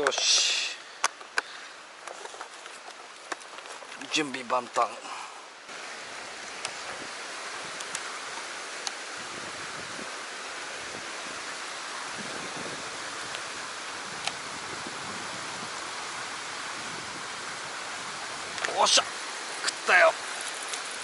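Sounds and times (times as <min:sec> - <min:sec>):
river rapids rushing: 0:04.1 - 0:21.0.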